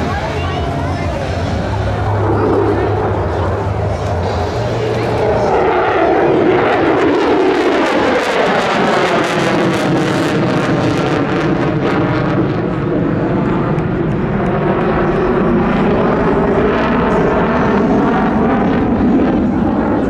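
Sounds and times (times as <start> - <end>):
loud jet noise: 0.0 - 20.0.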